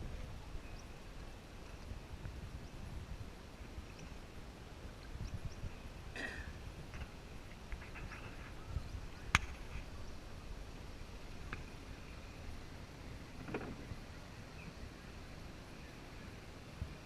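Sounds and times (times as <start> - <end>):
boat low rumble: 0.0 - 17.0.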